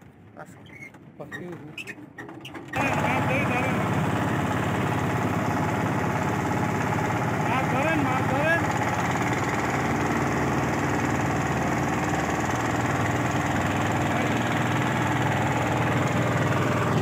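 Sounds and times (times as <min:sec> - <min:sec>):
boat engine running: 0:02.7 - 0:17.0.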